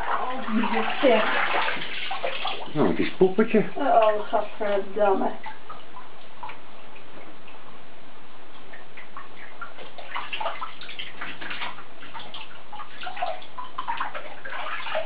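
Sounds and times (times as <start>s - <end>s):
water dripping and splashing in a bathtub: 0.0s - 15.0s.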